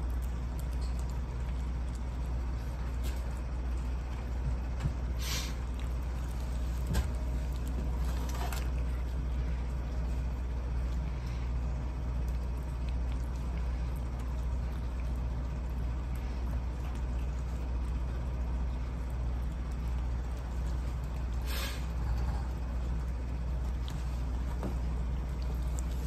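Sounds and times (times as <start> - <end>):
kittens eating from metal dish: 0.0 - 26.0
steady low hum: 0.0 - 26.0.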